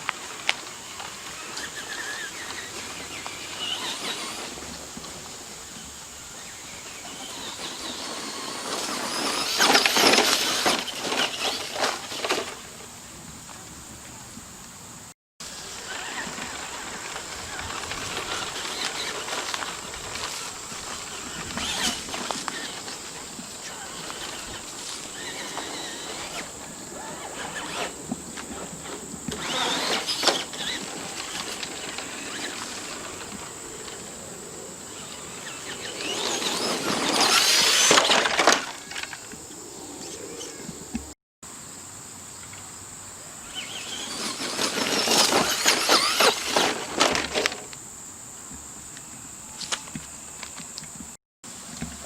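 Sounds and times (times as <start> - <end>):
electric motor whining: 0.0 - 12.7, 15.5 - 41.0, 43.4 - 47.6
tyres crunching on gravel: 0.0 - 14.3, 15.4 - 39.4, 43.6 - 47.8.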